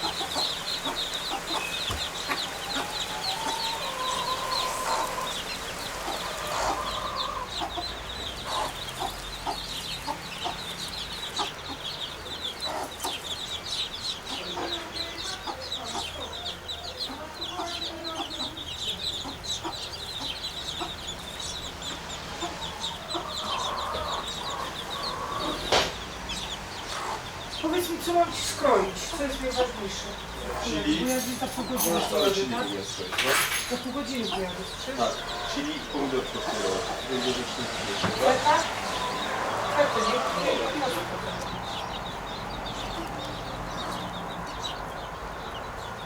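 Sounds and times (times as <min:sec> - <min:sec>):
chicken-like clucking calls: 0:00.0 - 0:32.9, 0:34.1 - 0:46.0
small birds twittering: 0:00.0 - 0:46.0.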